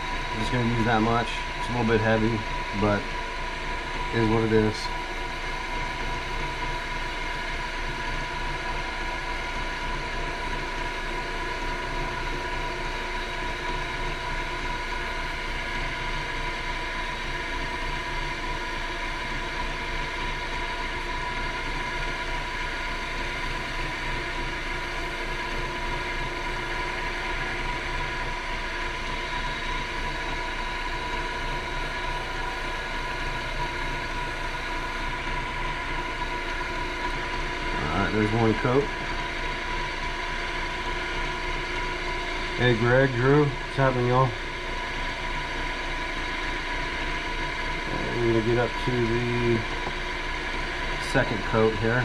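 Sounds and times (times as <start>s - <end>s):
wood lathe hum and whine: 0.0s - 52.0s.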